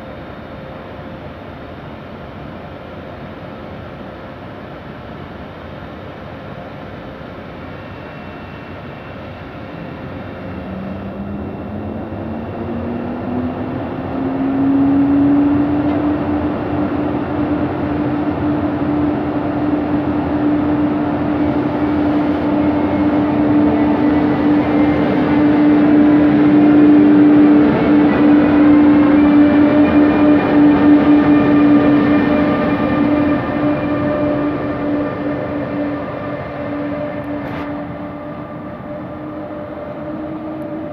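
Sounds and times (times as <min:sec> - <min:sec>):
electric locomotive whine: 0:00.0 - 0:40.9.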